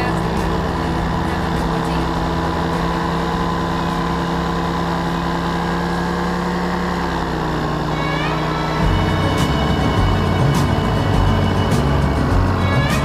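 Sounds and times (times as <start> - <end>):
aircraft engine and propeller: 0.0 - 13.0.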